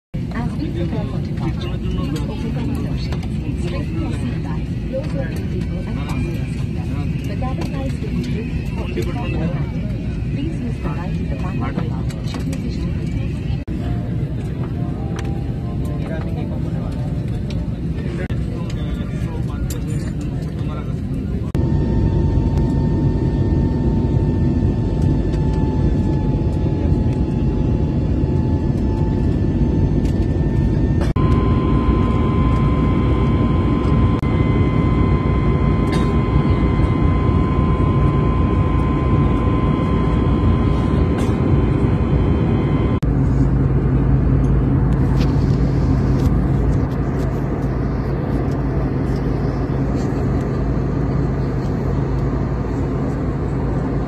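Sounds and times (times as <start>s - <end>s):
faint engine whine: 0.2s - 54.0s
jet cabin engine roar: 0.2s - 54.0s.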